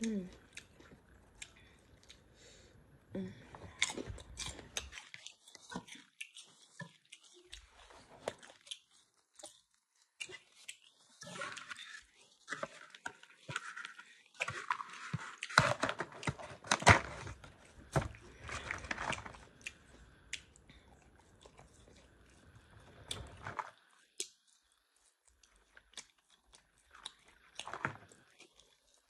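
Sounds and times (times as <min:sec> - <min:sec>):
chewing and crunching fries: 0:00.0 - 0:29.0.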